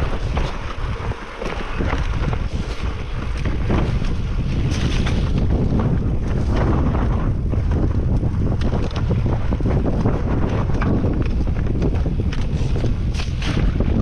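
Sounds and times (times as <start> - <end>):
bike and stones rattling: 0.0 - 14.0
tyres rumbling on trail: 0.0 - 14.0
wind buffeting microphone: 0.0 - 14.0.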